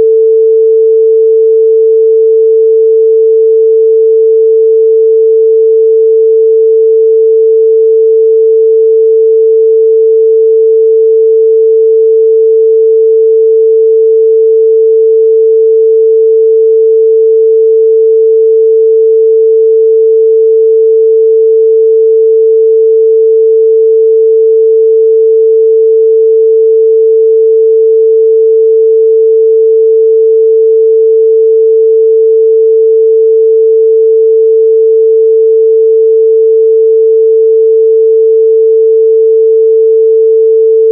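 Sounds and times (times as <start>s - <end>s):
sine wave test tone: 0.0s - 40.9s.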